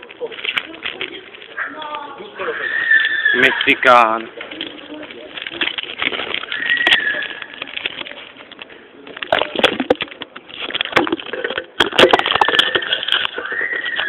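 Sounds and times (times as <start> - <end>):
bicycle clicking and rattling: 0.0 - 2.2, 2.8 - 14.0.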